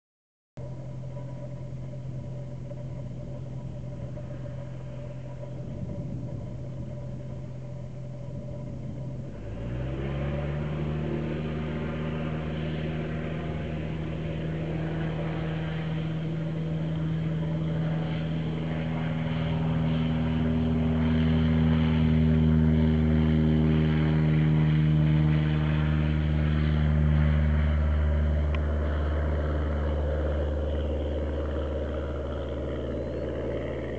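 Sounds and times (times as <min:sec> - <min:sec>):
propeller plane engine: 0:00.6 - 0:33.9.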